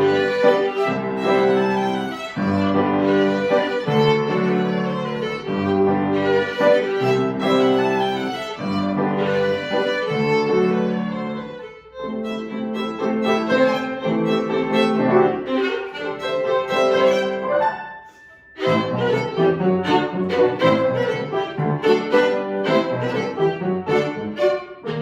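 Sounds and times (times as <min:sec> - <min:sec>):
piano accompaniment: 0:00.0 - 0:25.0
violin playing classical piece: 0:00.0 - 0:25.0.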